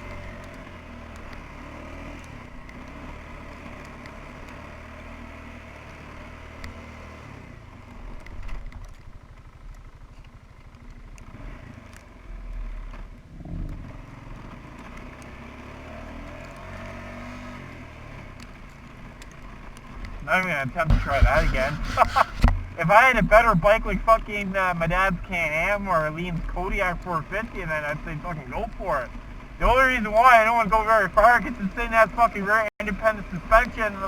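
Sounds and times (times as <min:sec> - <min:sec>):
atv engine under throttle: 0:00.0 - 0:34.0.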